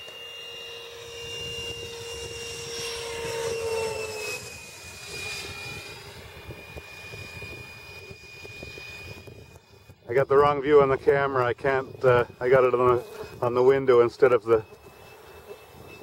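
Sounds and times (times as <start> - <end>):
model jet fan whine: 0.0 - 16.0.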